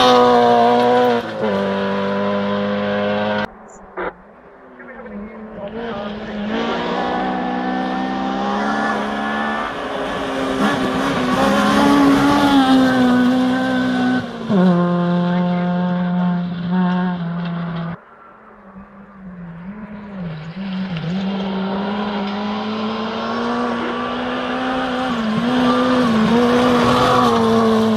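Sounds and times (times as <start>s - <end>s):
rally car passing at high revs: 0.0s - 3.6s, 4.6s - 27.9s.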